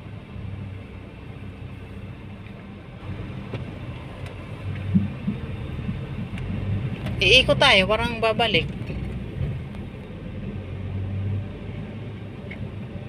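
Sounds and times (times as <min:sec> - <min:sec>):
engine and road rumble in car: 0:00.0 - 0:13.0.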